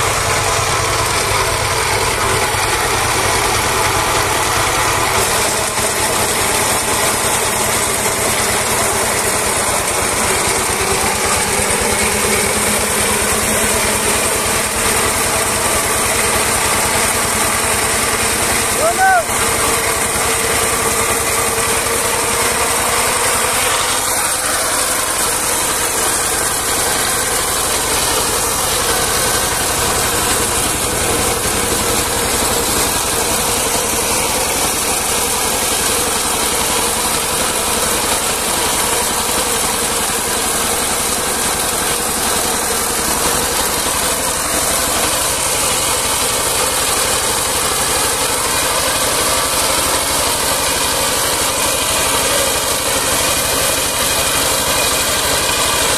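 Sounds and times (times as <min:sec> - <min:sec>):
small engine running under load: 0:00.0 - 0:55.9.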